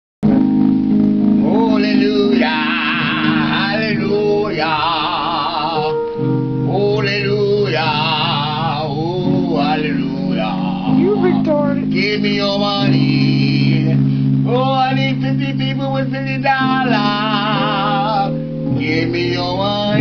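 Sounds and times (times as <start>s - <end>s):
long held chords: 0.2s - 20.0s
person singing with heavy vibrato: 1.4s - 6.1s, 6.7s - 20.0s.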